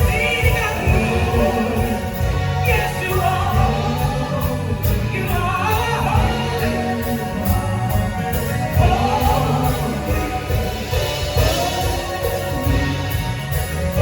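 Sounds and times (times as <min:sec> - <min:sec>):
gospel singing: 0:00.0 - 0:14.0
instrumental accompaniment: 0:00.0 - 0:14.0.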